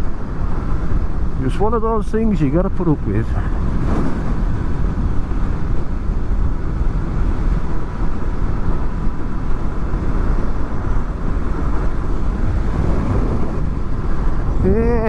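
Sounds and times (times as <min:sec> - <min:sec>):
road noise: 0:00.0 - 0:15.0
wind rumble on helmet microphones: 0:00.0 - 0:15.0.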